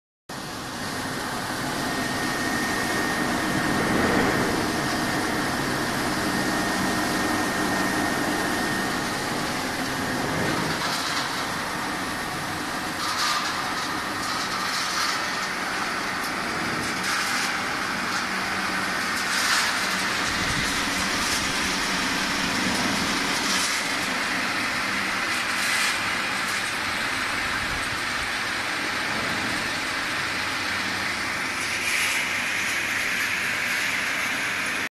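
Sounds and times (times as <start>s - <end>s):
machinery running steadily: 0.3s - 34.9s.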